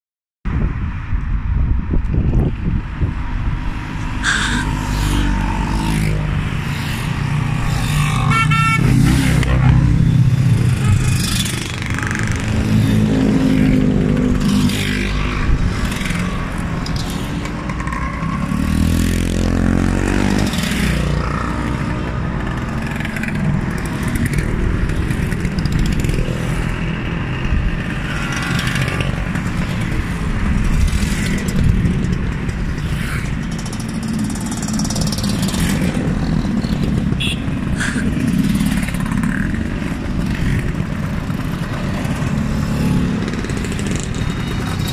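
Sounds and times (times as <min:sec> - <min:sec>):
motorcycles riding past: 0:03.0 - 0:44.9.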